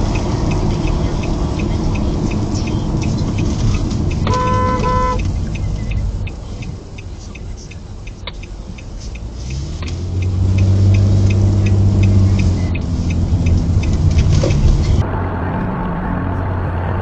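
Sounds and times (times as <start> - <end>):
fast even ticking: 0.0 - 15.0
vehicle engine from inside cab: 0.0 - 17.0.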